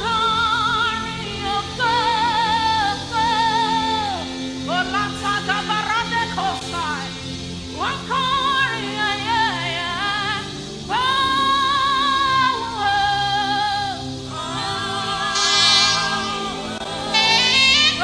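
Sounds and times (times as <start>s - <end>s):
keyboard and bass accompaniment: 0.0s - 18.0s
person singing gospel: 0.0s - 18.0s.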